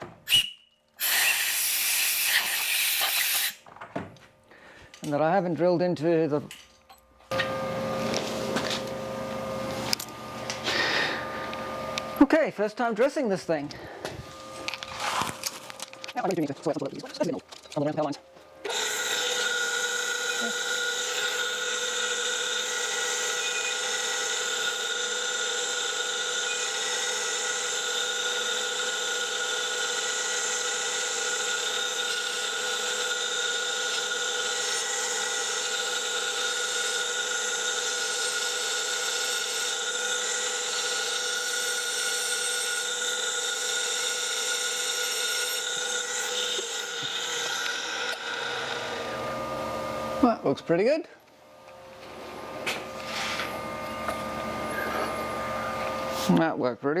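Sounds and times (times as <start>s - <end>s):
grinding wheel whine and hiss: 7.2s - 56.7s.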